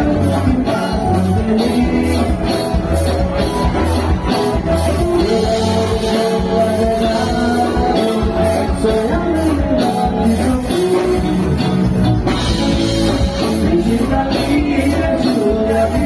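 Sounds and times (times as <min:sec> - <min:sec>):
person singing: 0:00.0 - 0:11.9, 0:12.6 - 0:16.0
band music with driving beat: 0:00.0 - 0:16.0.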